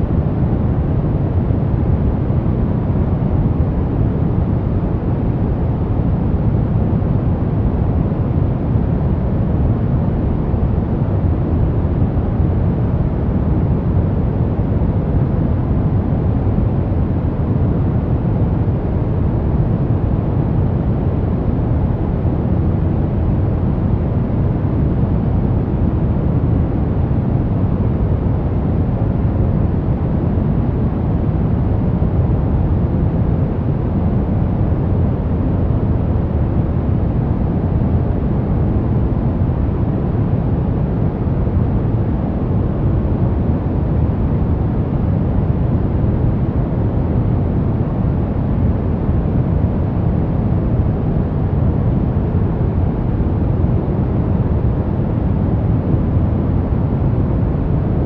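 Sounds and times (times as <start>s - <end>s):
deep rushing white noise: 0.0s - 58.0s.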